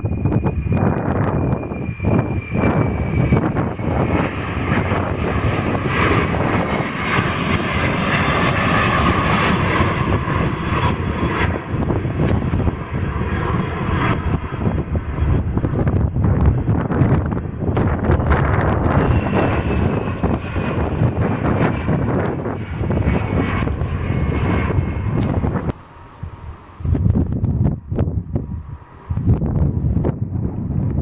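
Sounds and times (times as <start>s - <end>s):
jet engines passing: 0.0s - 31.0s
wind buffeting microphone: 0.0s - 31.0s.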